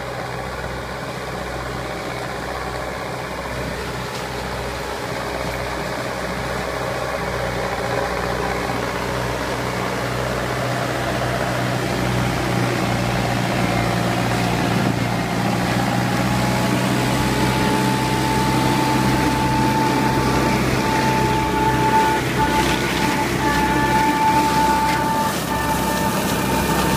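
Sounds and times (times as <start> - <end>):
tractor diesel engine under load: 0.0 - 26.9
mulcher whine: 1.7 - 26.9.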